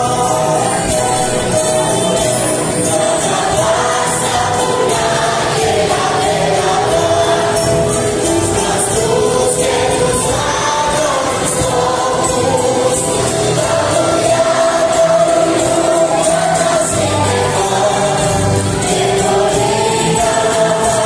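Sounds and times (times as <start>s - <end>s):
children's choir singing: 0.0s - 21.0s
musical backing: 0.0s - 21.0s.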